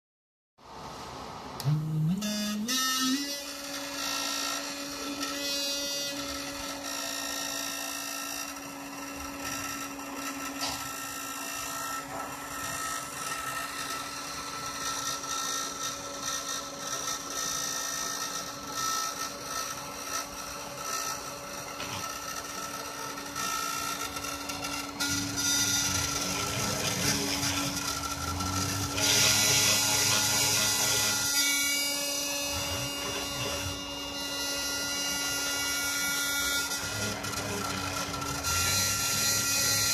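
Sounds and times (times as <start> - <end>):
stepper motors buzzing: 1.0 - 39.9
rotary tool motor whining: 1.6 - 39.9.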